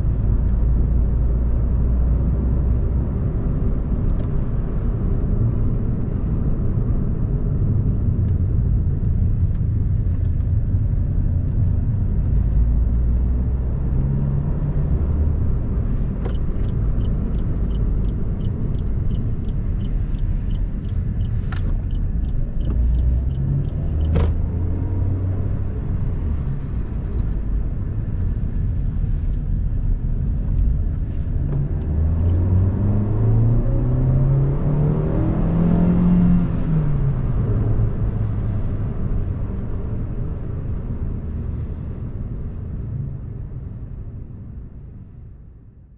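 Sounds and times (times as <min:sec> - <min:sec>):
road rumble: 0:00.0 - 0:45.9
car engine accelerating: 0:04.0 - 0:42.4.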